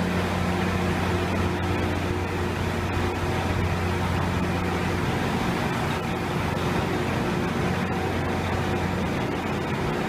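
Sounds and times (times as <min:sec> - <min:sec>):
machinery low hum: 0:00.0 - 0:10.0.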